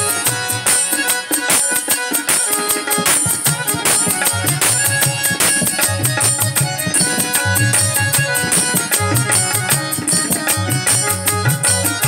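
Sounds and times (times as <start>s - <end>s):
electronic keyboard organ melody: 0.0s - 12.0s
fast tabla rhythm: 0.0s - 12.0s.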